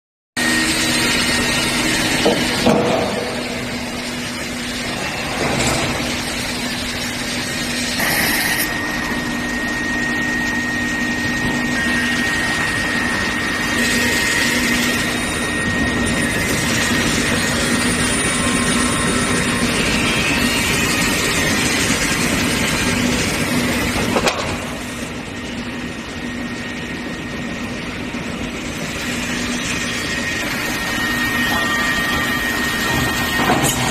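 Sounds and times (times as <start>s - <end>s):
machinery humming: 0.4s - 33.9s
thin high whine: 0.4s - 33.9s.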